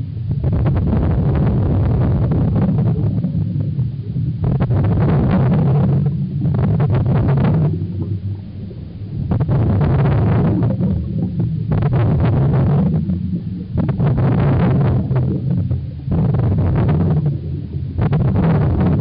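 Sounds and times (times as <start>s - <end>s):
underwater regulator bubbling: 0.0s - 19.0s.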